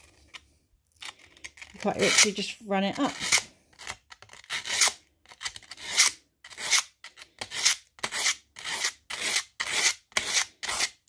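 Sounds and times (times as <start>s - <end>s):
abrasive paper scratching steel teeth: 1.0s - 11.0s.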